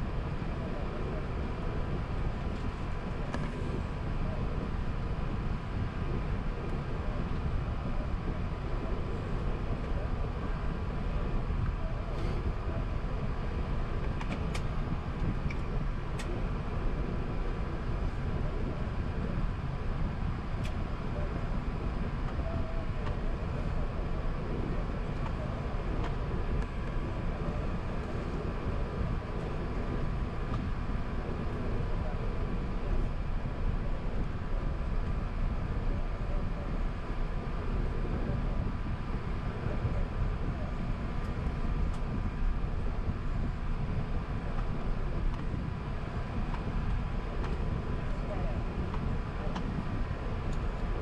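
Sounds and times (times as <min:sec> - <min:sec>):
airplane cabin rumble while taxiing: 0:00.0 - 0:51.0
faint steady tone: 0:00.0 - 0:51.0.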